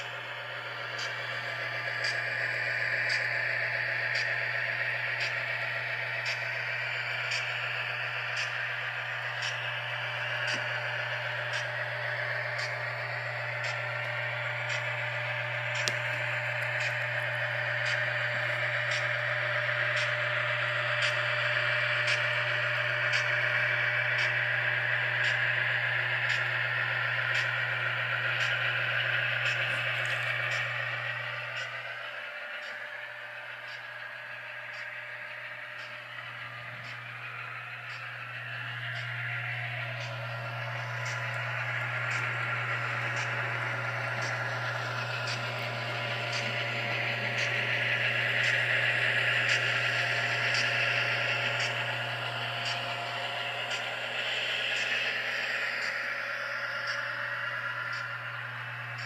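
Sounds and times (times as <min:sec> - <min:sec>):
model locomotive diesel engine sound: 0:00.0 - 0:59.0.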